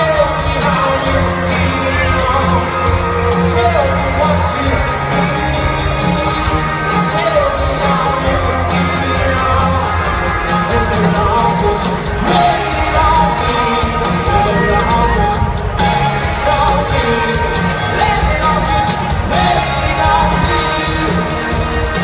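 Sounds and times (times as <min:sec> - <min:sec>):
live pop-rock band playing: 0:00.0 - 0:22.0
person singing: 0:00.0 - 0:22.0.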